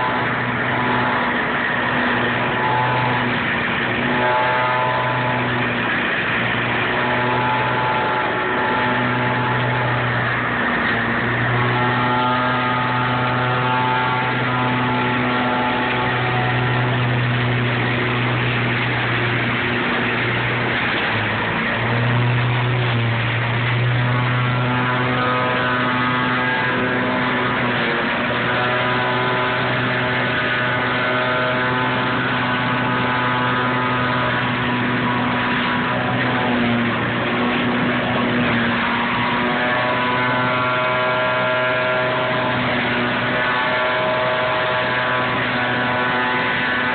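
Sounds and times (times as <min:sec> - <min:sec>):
engine and fan humming: 0:00.0 - 0:46.9.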